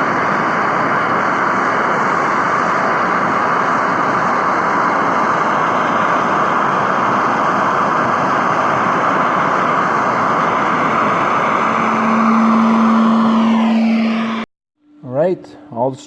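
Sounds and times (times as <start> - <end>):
welding arc hissing: 0.0 - 14.4.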